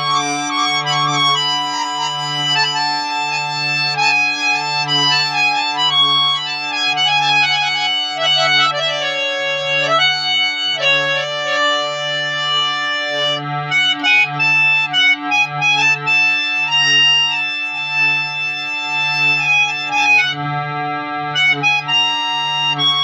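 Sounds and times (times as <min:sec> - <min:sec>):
harmonium melody: 0:00.0 - 0:23.0.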